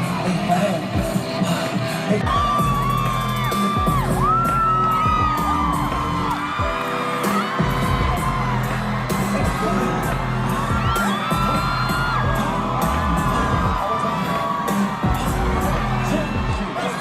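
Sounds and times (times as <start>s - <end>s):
fans screaming: 0.0s - 17.0s
pop music over sound system: 0.0s - 17.0s.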